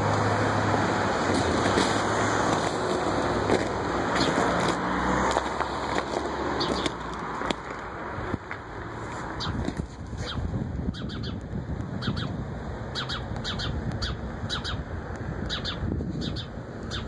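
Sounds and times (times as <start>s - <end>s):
passing car: 0.0s - 17.0s.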